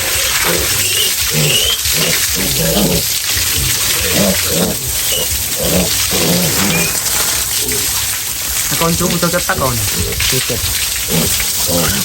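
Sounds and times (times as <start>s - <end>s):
background hiss: 0.0s - 12.0s
pigs grunting: 0.0s - 12.0s.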